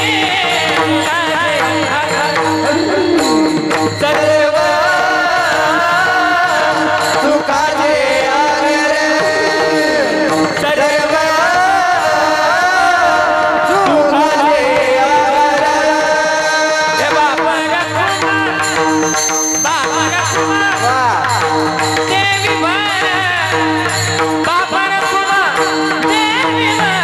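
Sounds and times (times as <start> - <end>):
person singing devotional song: 0.0 - 27.0.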